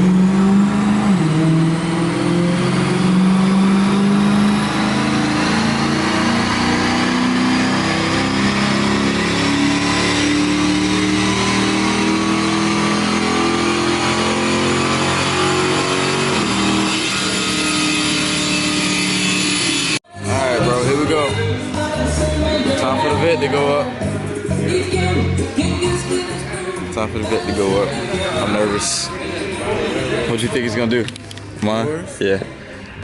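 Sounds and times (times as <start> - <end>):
car engine revving under load: 0.0 - 28.8.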